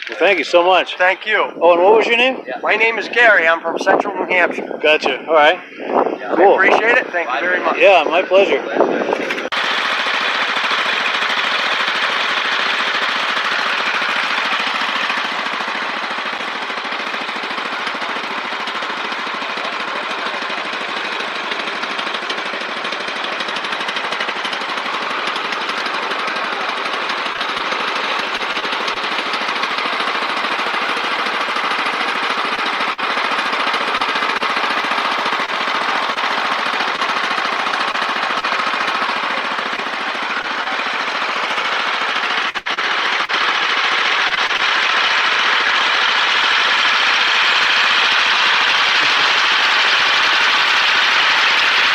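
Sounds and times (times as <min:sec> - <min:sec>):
small snowmobile engine running: 0:00.0 - 0:51.9.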